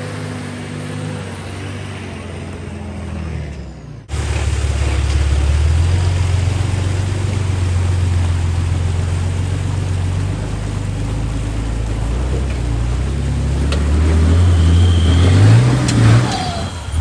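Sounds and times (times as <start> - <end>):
engine rumbling at low revs: 0.0 - 17.0.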